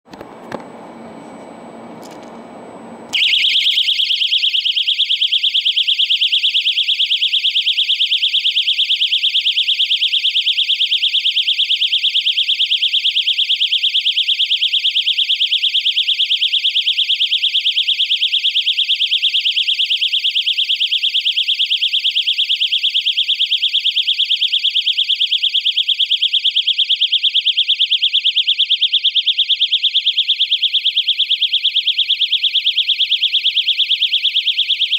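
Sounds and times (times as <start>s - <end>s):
shrill pulsing electronic alarm: 3.1s - 34.9s.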